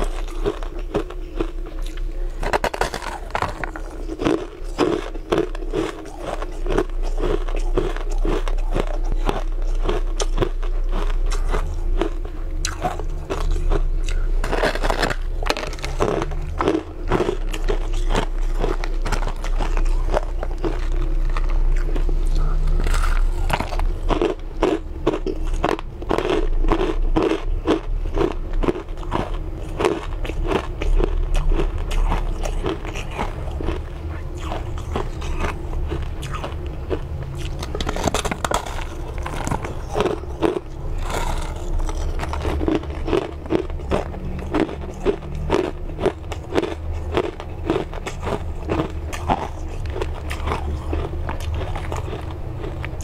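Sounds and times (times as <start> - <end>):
crunching ice chewing: 0.0 - 53.0.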